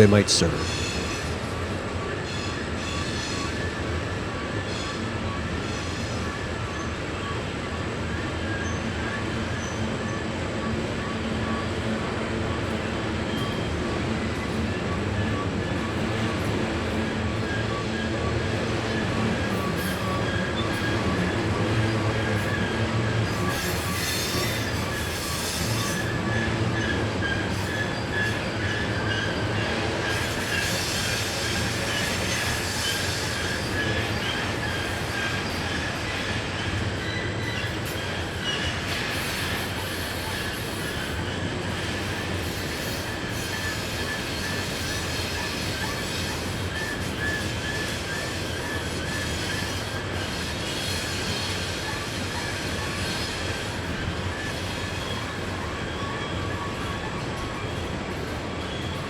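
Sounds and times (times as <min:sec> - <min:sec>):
train wheel flanges squealing: 0:00.6 - 0:59.0.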